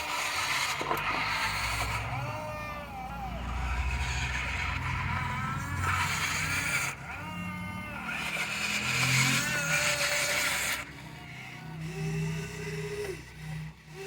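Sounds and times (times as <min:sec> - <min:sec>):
vehicle motor running: 0:00.0 - 0:14.0.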